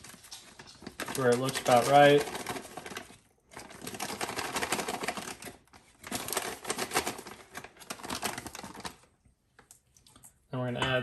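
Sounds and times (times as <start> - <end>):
plastic bag crinkling: 0.0 - 9.7
meal rustling: 0.0 - 10.3.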